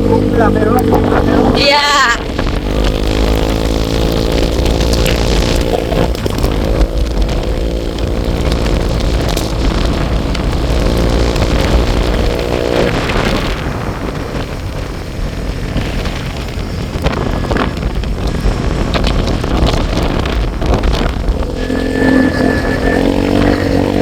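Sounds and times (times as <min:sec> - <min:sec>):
motorcycle engine cruising: 0:00.0 - 0:24.0
wind buffeting microphone: 0:00.0 - 0:24.0.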